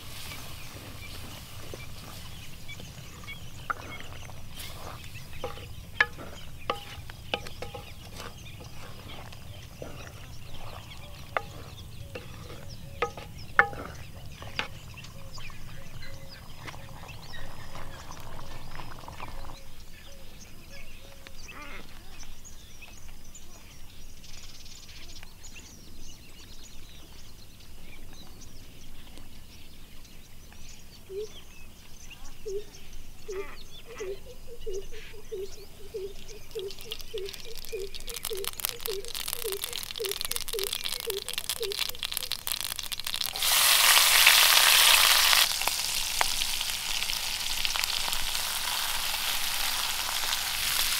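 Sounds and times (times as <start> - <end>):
birds calling and chirping: 0.0 - 50.9.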